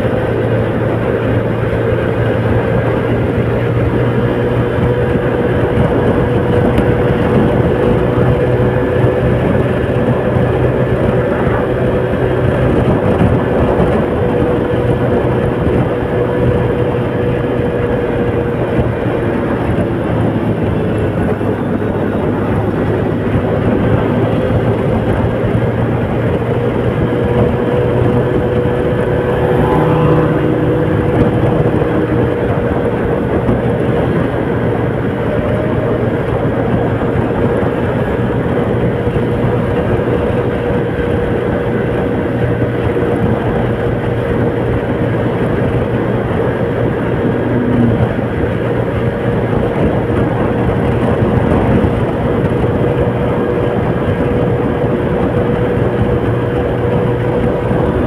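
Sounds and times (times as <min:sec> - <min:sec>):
engine hum: 0:00.0 - 0:58.0.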